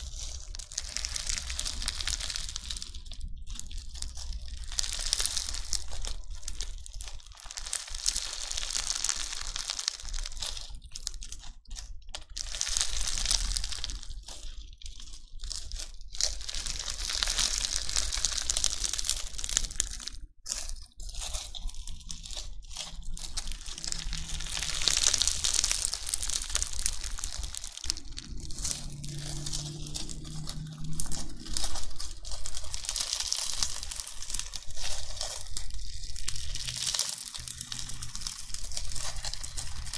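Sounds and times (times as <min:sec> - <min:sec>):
crunchy slime crackling: 0:00.0 - 0:39.9.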